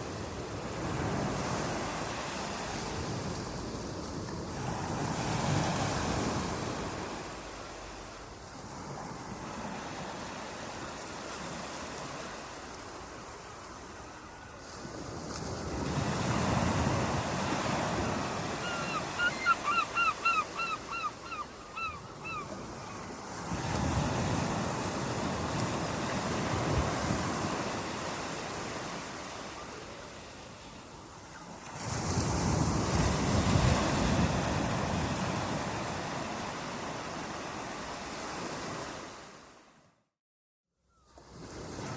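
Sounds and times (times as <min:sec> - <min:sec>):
waves washing in: 0:00.0 - 0:39.7.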